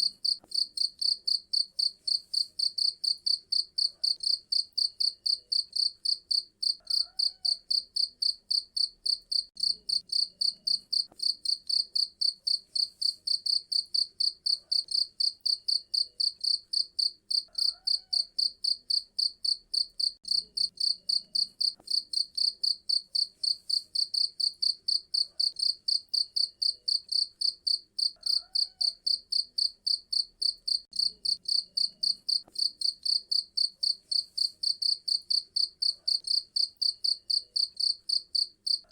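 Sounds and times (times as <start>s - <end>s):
cricket chirping: 0.2s - 38.9s.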